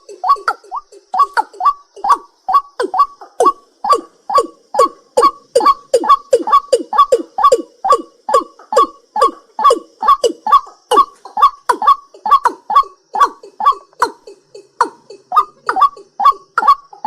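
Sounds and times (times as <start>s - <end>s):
night bird calling: 0.0s - 17.0s.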